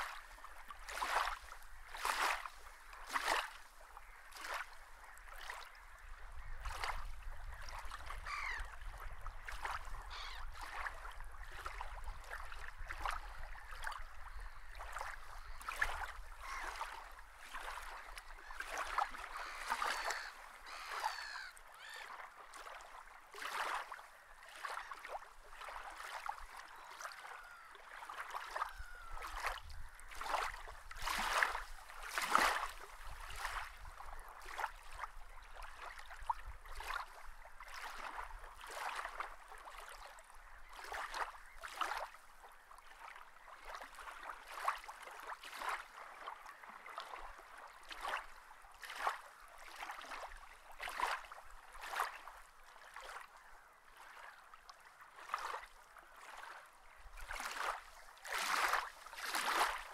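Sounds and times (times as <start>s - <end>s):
water lapping and splashing: 0.0s - 59.9s.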